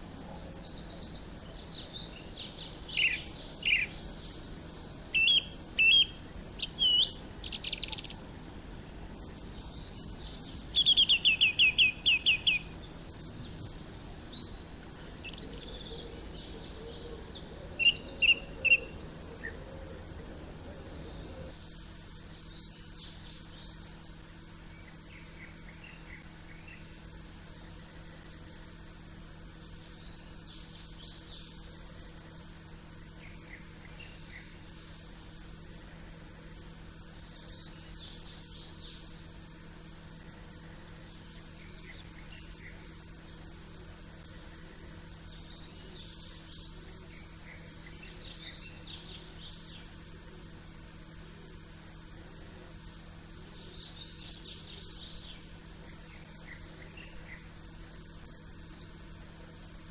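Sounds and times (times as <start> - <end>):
low background hum: 0.0 - 59.9
songbirds chirping: 0.0 - 59.9.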